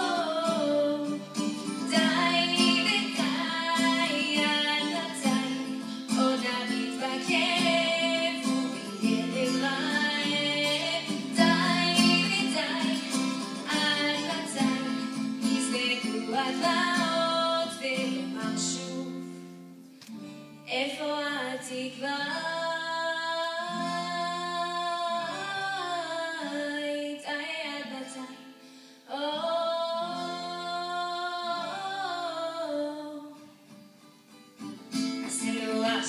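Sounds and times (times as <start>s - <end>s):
girl singing into microphone: 0.0s - 19.7s, 20.6s - 33.6s, 35.1s - 36.0s
plucked acoustic guitar: 0.0s - 36.0s.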